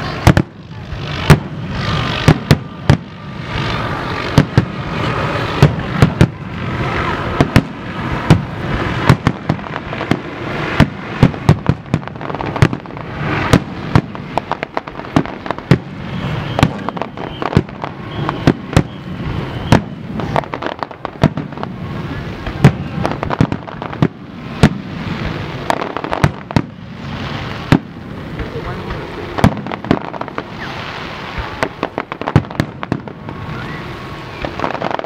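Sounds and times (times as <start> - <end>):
firework shells bursting: 0.0 - 35.0
hissing of fireworks: 0.0 - 35.0.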